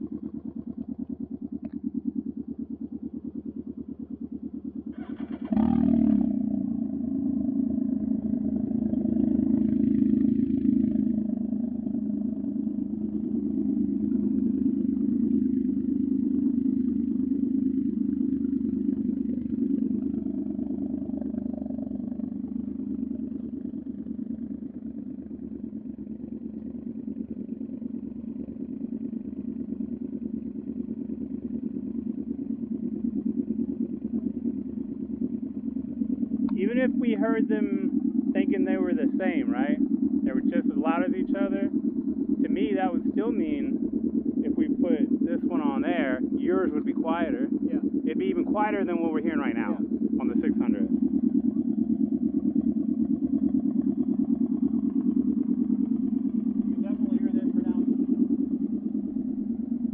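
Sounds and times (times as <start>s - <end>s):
trike engines idling: 0.0s - 59.9s.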